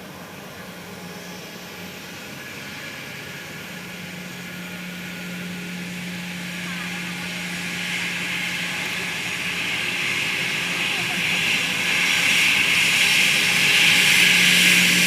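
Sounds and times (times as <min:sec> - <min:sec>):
jet aircraft engine rushing: 0:00.0 - 0:15.0.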